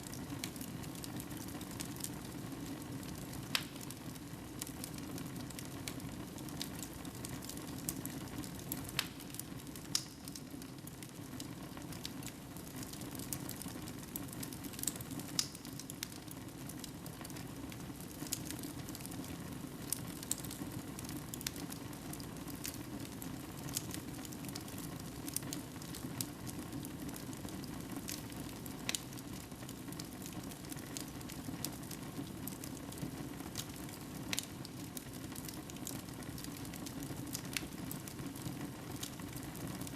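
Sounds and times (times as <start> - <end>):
fire popping and crackling: 0.0 - 39.9.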